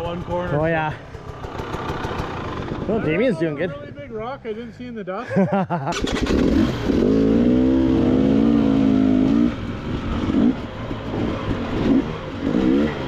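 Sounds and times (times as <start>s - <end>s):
dirt bike engine revving: 0.0s - 3.6s, 5.8s - 13.0s.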